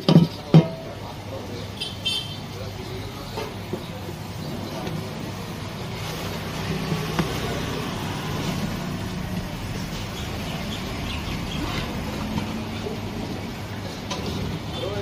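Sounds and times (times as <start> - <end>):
background rush: 1.0 - 15.0.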